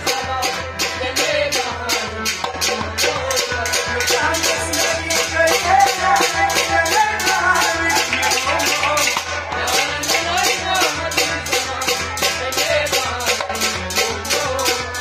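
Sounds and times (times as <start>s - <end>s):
goblet drum beat: 0.0s - 15.0s
harmonium: 0.0s - 15.0s
man singing: 0.0s - 15.0s.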